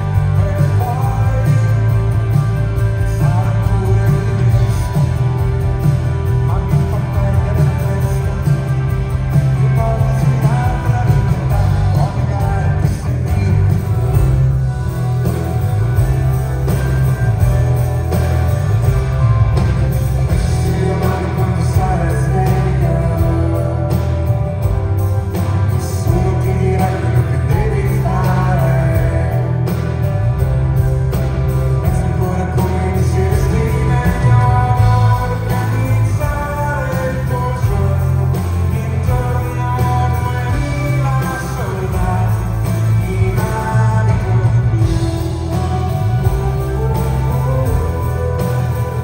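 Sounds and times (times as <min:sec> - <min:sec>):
person singing: 0:00.0 - 0:30.9, 0:31.8 - 0:49.0
bass line: 0:00.0 - 0:49.0
live rock band playing: 0:00.0 - 0:49.0.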